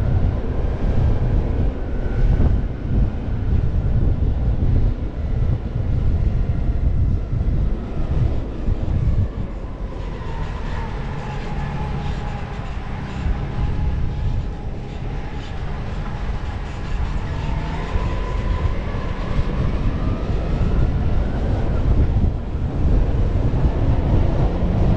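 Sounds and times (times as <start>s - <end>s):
engine and road rumble: 0.0s - 24.9s.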